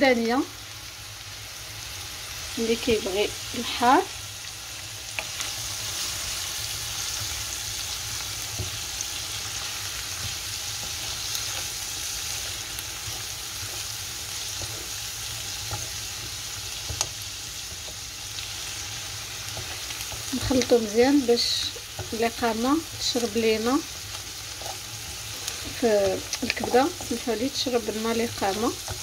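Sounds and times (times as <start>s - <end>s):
food sizzling in frying pan: 0.0s - 29.0s.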